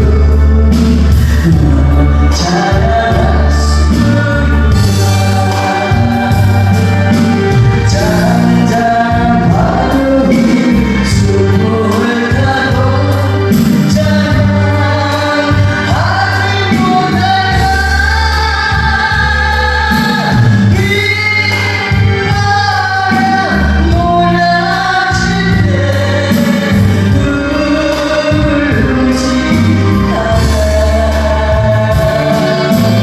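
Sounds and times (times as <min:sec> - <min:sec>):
gospel hymn singing: 0:00.0 - 0:33.0
held bass notes: 0:00.0 - 0:33.0.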